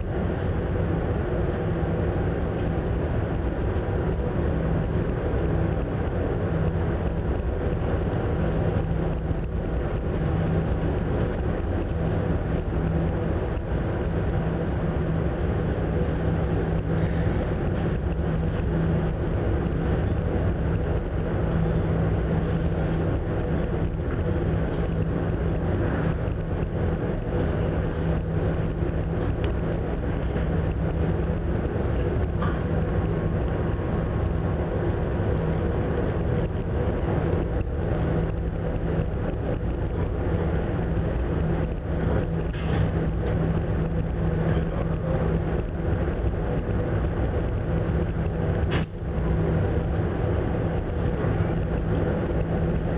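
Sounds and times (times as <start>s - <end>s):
ship engines droning: 0.0s - 52.9s
wind and sea rushing: 0.0s - 52.9s.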